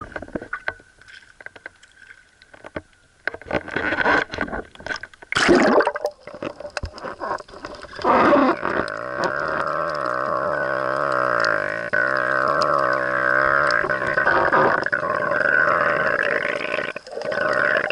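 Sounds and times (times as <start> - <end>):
water gurgling and sloshing: 0.0 - 17.9.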